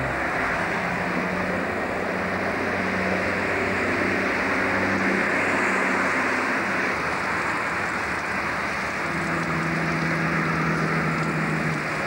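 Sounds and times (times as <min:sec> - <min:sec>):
constant hiss: 0:00.0 - 0:12.0
diesel locomotive engines humming: 0:00.0 - 0:12.0.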